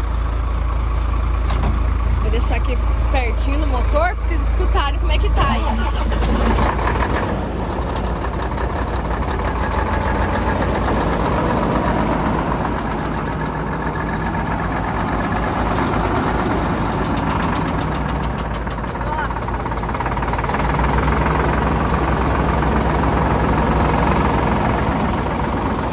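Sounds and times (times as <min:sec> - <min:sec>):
diesel engine idling: 0:00.0 - 0:25.9.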